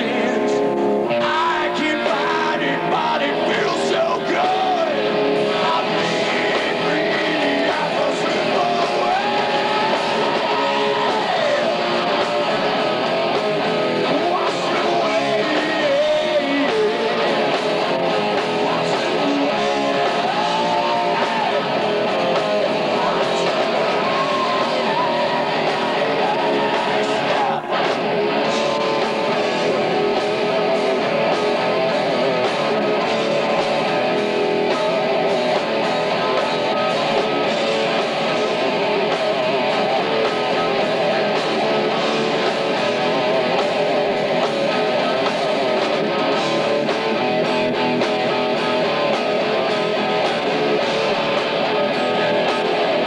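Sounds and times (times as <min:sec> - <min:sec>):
man singing: 0:00.0 - 0:13.0, 0:13.9 - 0:51.1
bass guitar: 0:00.0 - 0:53.0
distorted electric guitar: 0:00.0 - 0:53.0
drums: 0:00.0 - 0:53.0.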